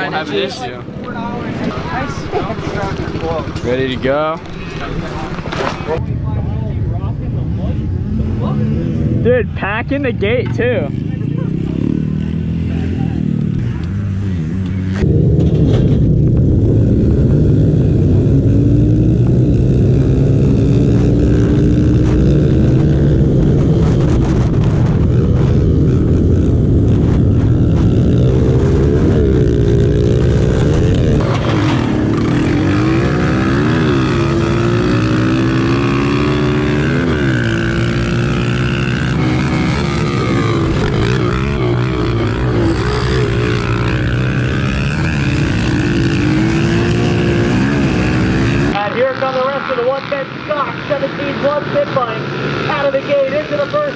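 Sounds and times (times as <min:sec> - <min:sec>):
pit bike engines revving: 0:00.0 - 0:06.0, 0:07.4 - 0:53.9.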